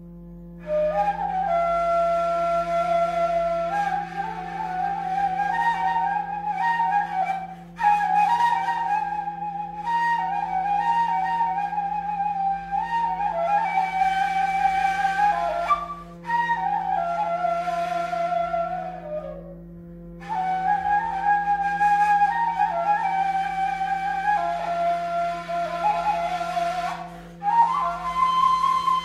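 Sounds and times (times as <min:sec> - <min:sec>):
wooden flute melody: 0:00.0 - 0:29.0.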